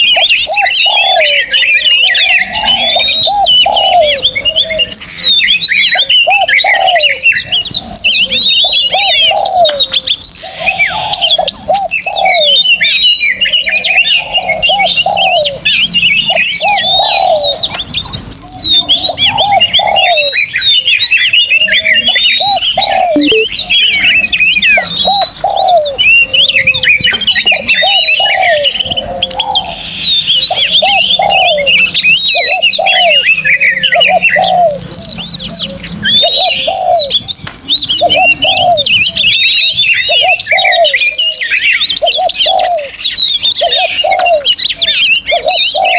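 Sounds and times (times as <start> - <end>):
bird cooing: 0.0 - 45.9
songbirds chirping and whistling: 0.0 - 45.9.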